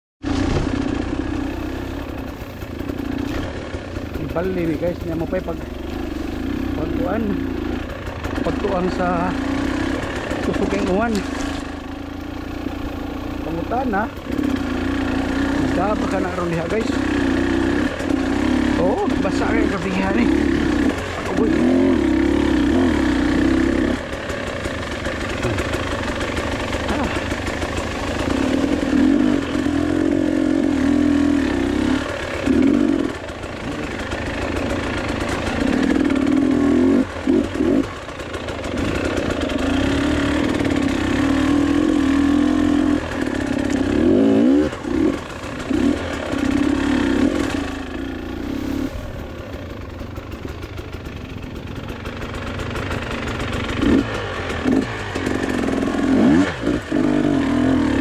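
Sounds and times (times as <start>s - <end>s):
motorcycle engine revving: 0.2s - 58.0s.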